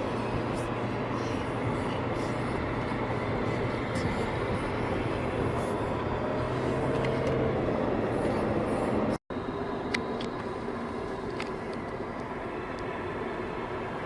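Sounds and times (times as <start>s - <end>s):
car cabin road and engine noise: 0.0s - 14.0s.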